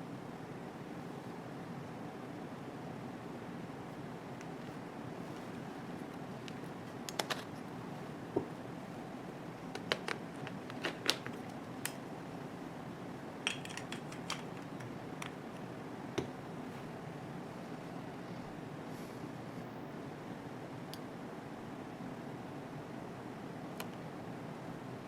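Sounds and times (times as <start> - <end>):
steady low hiss: 0.0 - 25.0.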